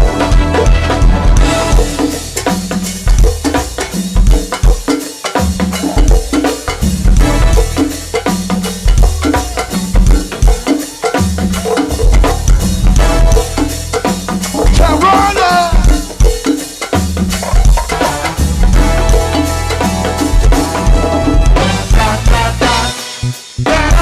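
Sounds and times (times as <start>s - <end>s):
band playing instrumental groove: 0.0s - 24.0s.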